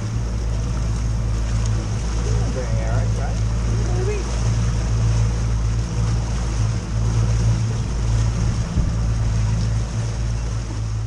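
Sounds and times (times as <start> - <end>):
boat motor drone: 0.0 - 11.0
wind and water rushing: 0.0 - 11.0.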